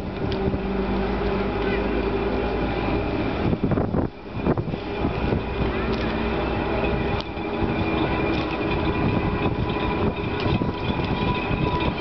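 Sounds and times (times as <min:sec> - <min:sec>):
railway turntable mechanical hum: 0:00.0 - 0:12.0.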